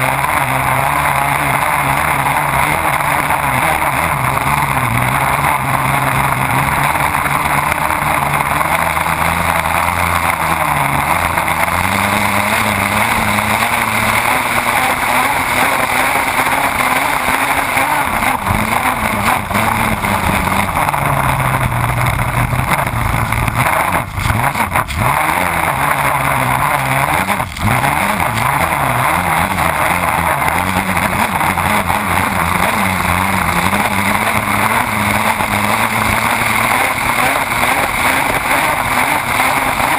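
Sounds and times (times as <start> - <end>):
race boat engine: 0.0 - 39.9.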